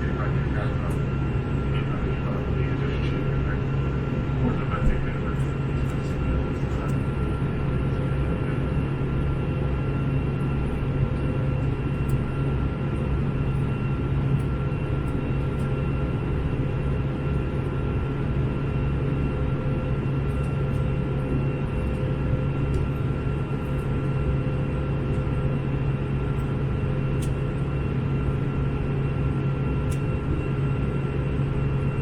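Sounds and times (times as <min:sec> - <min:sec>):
airplane engine drone: 0:00.0 - 0:32.0.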